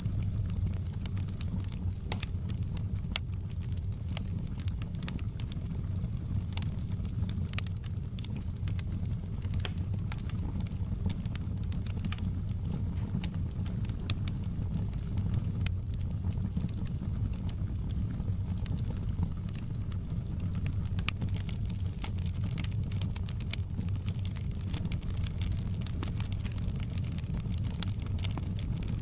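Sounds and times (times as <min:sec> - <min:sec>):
fire crackling and popping: 0:00.0 - 0:29.0
low rumble of fire: 0:00.0 - 0:29.0.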